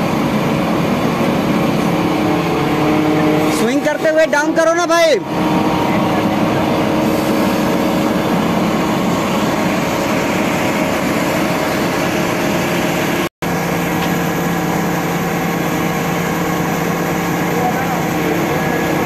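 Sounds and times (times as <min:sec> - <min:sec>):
crane engine running: 0:00.0 - 0:19.0.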